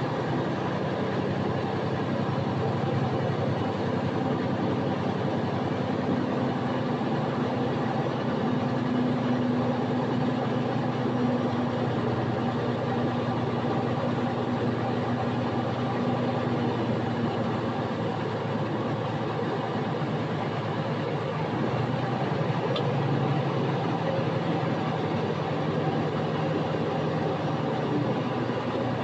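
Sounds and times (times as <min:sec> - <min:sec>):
diesel truck engine drone: 0:00.0 - 0:29.0.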